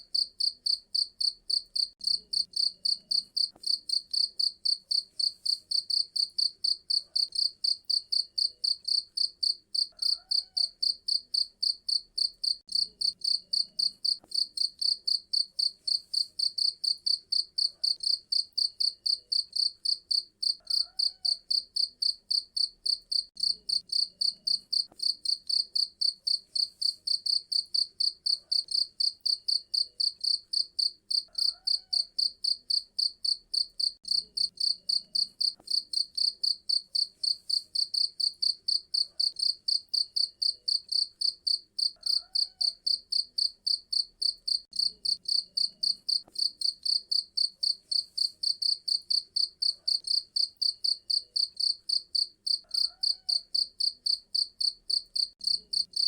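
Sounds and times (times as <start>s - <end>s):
cricket chirping: 0.1s - 56.0s.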